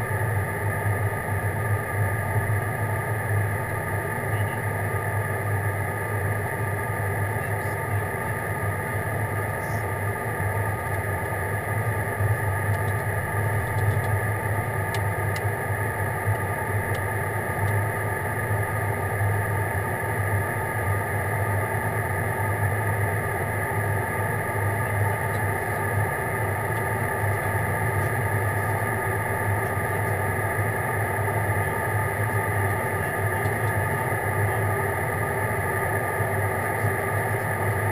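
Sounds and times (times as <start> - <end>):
airliner engines droning in cabin: 0.0 - 37.9.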